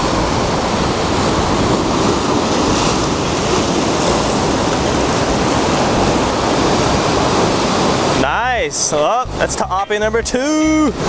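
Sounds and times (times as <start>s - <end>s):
surf breaking on rocks: 0.0s - 11.0s.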